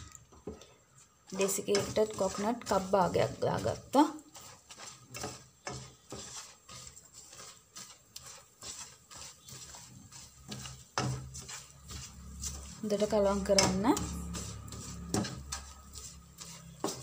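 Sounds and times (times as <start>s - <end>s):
wooden spoon scraping a pan: 0.0s - 17.0s.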